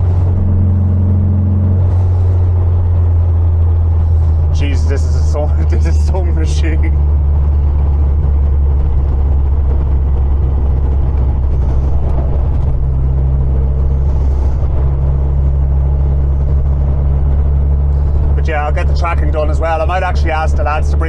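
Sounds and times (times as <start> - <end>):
car engine low drone: 0.0 - 21.0.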